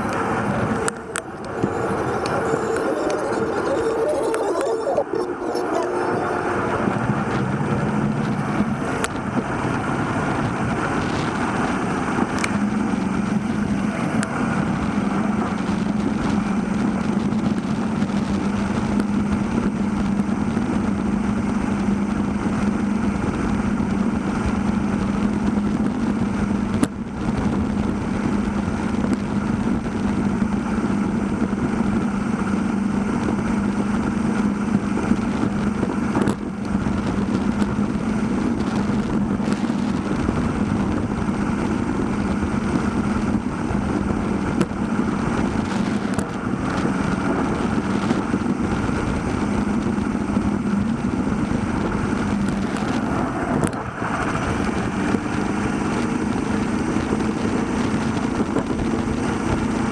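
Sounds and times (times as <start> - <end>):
constant low hum: 0.0 - 59.9
road rumble: 0.0 - 59.9
wind on microphone: 0.0 - 59.9.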